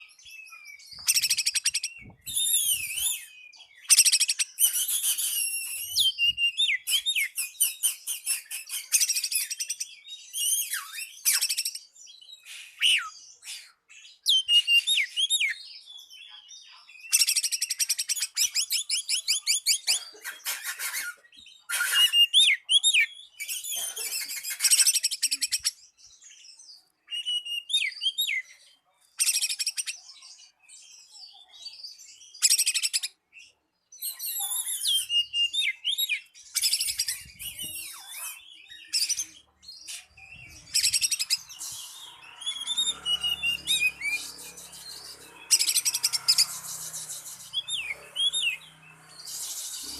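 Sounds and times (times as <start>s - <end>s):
bird singing whistles and trills: 0.0s - 28.6s, 29.2s - 49.9s.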